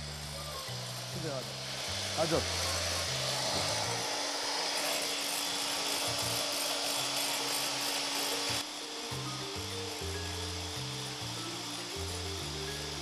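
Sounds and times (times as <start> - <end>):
electric hand mixer whirring: 0.0 - 13.0.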